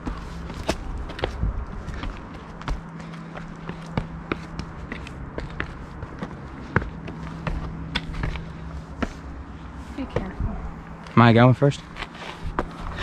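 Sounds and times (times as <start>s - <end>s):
footsteps on rocky trail: 0.0s - 11.1s, 11.8s - 13.0s.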